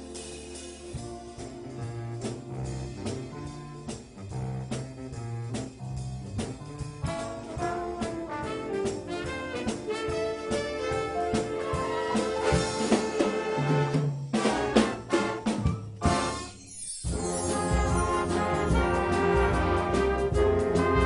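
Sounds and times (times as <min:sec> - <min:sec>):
student brass band playing: 0:00.0 - 0:21.0
drum hits: 0:00.9 - 0:16.4, 0:17.1 - 0:21.0.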